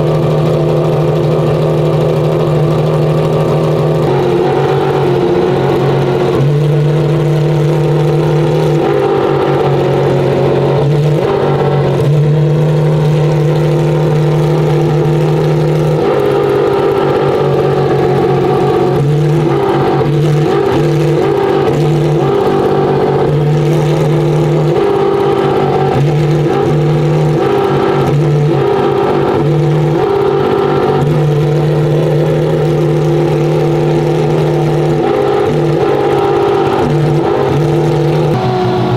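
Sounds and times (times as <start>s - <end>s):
loud car engine running: 0.0s - 38.9s.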